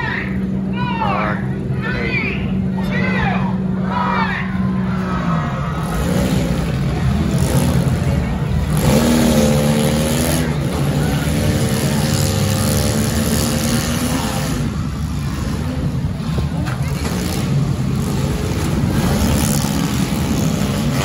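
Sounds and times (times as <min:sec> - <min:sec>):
car engines revving hard: 0:02.5 - 0:21.0.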